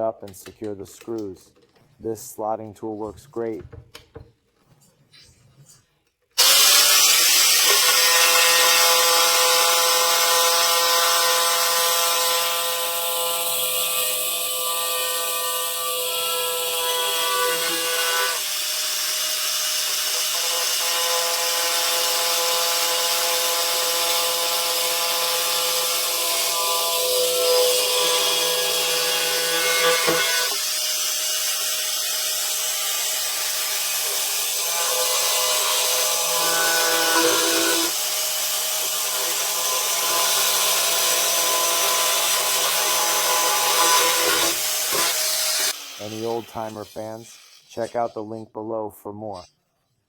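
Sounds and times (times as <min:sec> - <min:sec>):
power tool whine: 0:06.4 - 0:48.0
wood being cut: 0:06.4 - 0:49.6.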